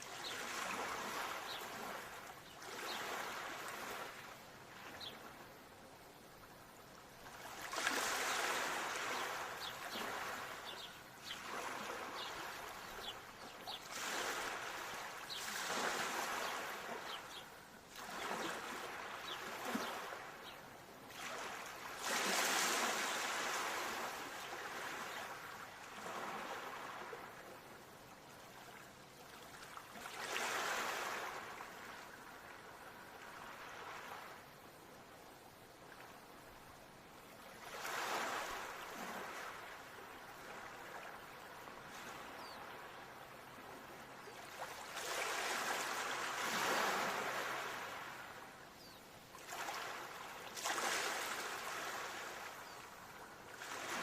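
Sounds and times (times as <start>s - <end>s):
ocean waves breaking on shore: 0.0s - 5.5s, 7.2s - 54.0s.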